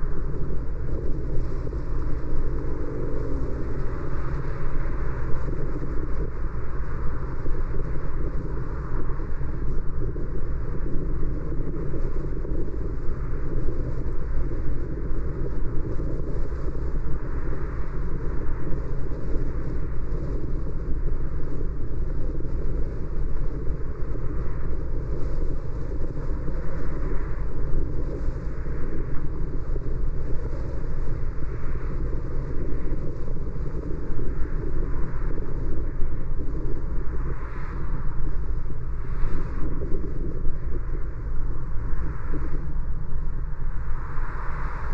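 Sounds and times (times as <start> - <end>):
wind noise: 0.0 - 44.9.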